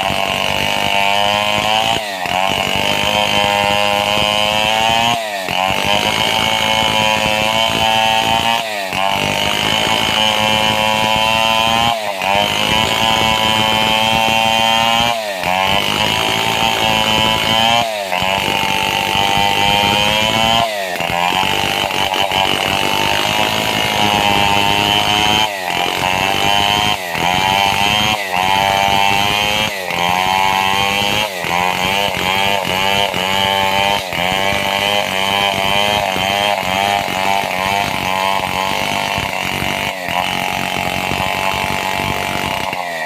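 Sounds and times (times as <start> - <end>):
chainsaw cutting through log: 0.0 - 43.0.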